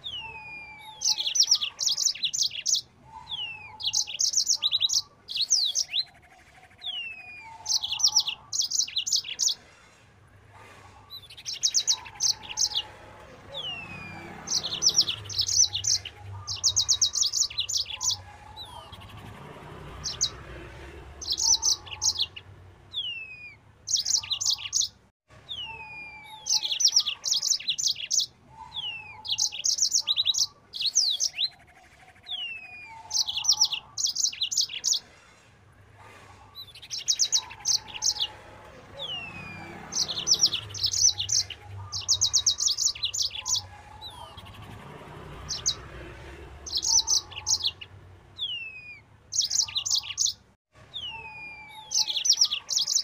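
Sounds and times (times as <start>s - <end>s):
canary singing: 0.0s - 9.9s, 10.8s - 53.0s.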